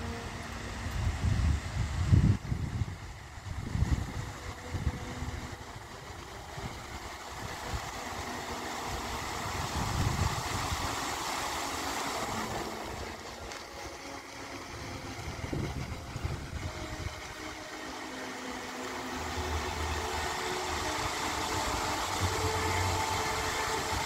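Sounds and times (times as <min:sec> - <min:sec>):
wind rumbling on microphone: 0:00.0 - 0:17.7, 0:19.3 - 0:24.0
fountain water jets spraying: 0:00.0 - 0:24.0.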